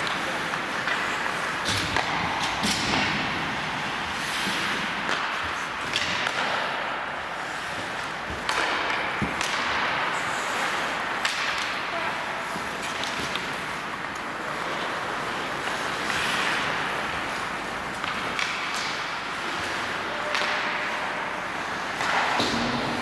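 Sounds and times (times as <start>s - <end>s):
sticks hitting puck: 0.0s - 12.0s, 12.6s - 23.0s
skates scraping on ice: 0.1s - 23.0s.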